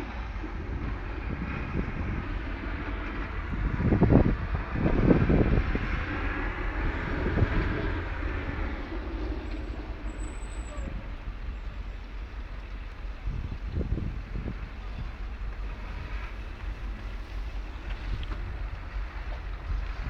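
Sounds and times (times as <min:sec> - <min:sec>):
storm wind buffeting microphone: 0:00.0 - 0:20.0.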